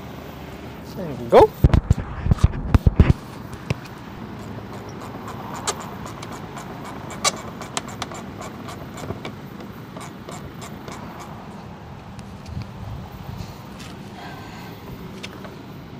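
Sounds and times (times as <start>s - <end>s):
outdoor background hiss: 0.0s - 15.9s.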